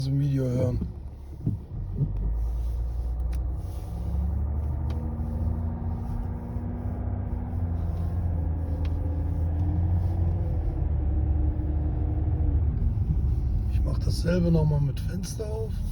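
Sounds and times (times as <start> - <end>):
road and drivetrain rumble: 0.0 - 15.9.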